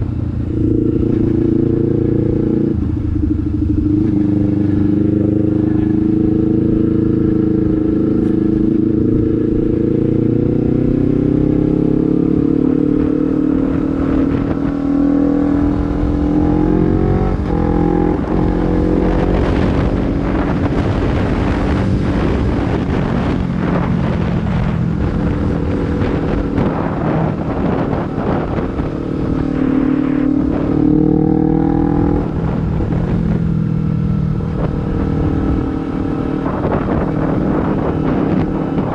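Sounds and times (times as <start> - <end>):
motorcycle exhaust while riding: 0.0 - 38.9
wind buffeting: 0.0 - 38.9.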